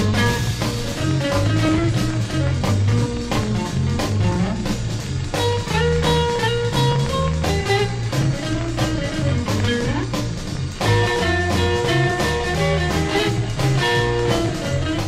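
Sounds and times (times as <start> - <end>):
bass line: 0.0 - 15.0
drum kit beat: 0.0 - 15.0
electric guitar melody: 0.0 - 15.0.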